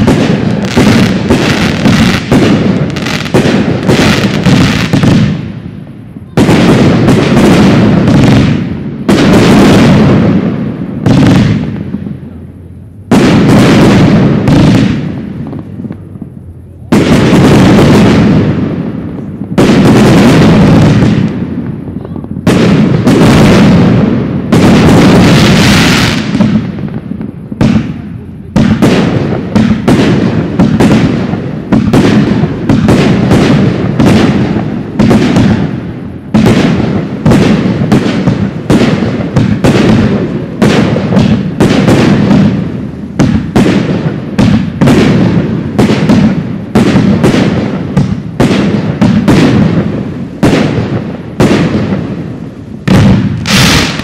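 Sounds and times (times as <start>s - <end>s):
fireworks bursting with echo: 0.0s - 54.0s.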